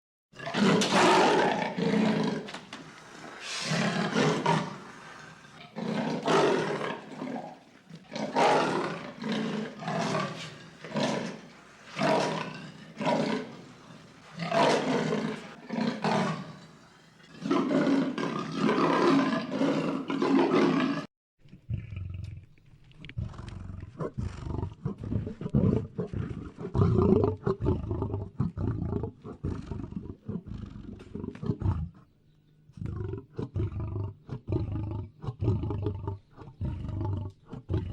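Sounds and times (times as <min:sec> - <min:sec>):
lion roaring: 0:00.4 - 0:32.1, 0:32.8 - 0:37.9.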